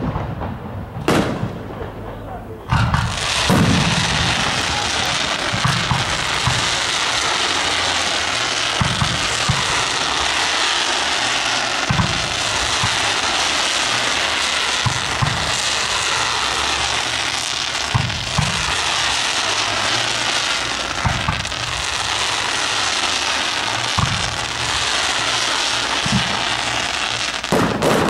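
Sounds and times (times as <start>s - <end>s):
continuous hiss: 0.0s - 28.0s
fireworks booming: 0.0s - 28.0s.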